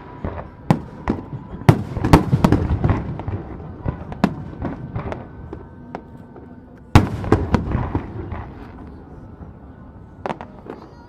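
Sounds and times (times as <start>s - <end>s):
fireworks bursting: 0.0s - 9.2s
rumbling echo: 0.0s - 10.7s.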